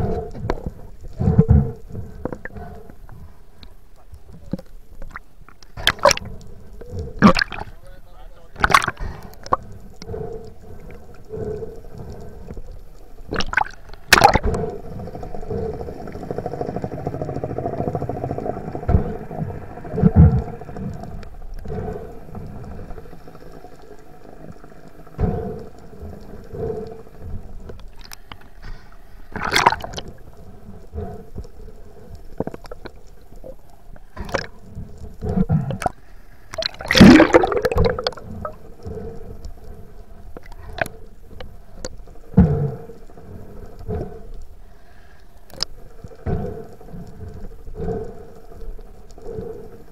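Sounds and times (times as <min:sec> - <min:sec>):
muffled underwater sloshing: 0:00.0 - 0:49.9.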